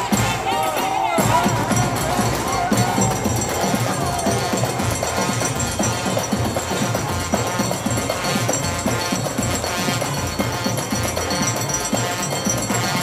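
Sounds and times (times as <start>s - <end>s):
frame drums beating: 0.0s - 13.0s
trumpets playing: 0.0s - 13.0s
big drum beating: 1.2s - 13.0s.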